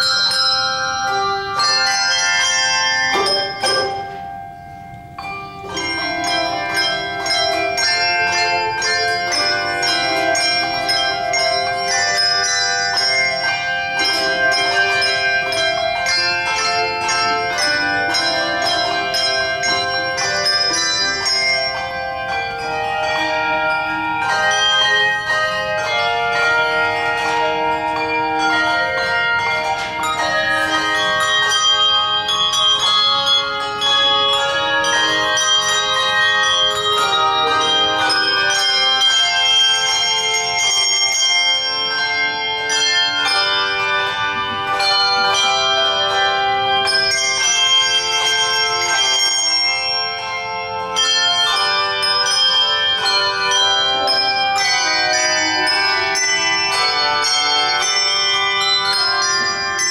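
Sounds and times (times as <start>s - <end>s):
handbell choir ringing: 0.0s - 59.9s.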